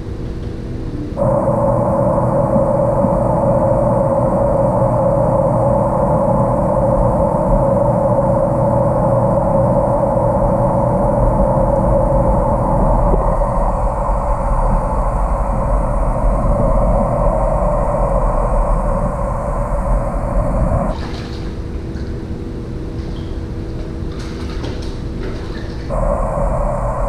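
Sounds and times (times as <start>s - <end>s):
muffled underwater water noise: 1.2s - 27.0s.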